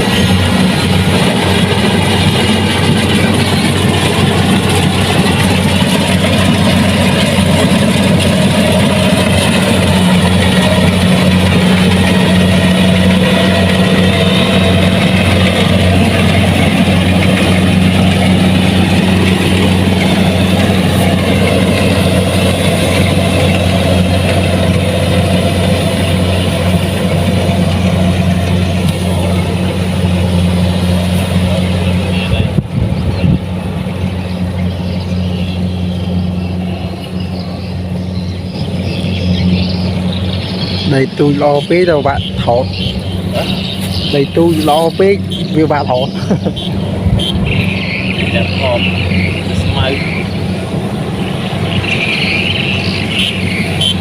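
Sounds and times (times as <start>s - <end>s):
combine harvester diesel drone: 0.0s - 54.0s.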